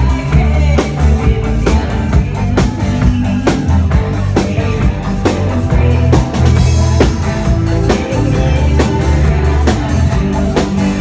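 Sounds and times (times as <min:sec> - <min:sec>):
bass line: 0:00.0 - 0:11.0
guitar: 0:00.0 - 0:11.0.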